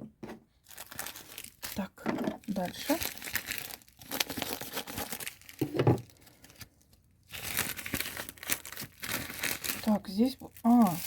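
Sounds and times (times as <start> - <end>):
plastic packaging crinkling: 0.6 - 11.0.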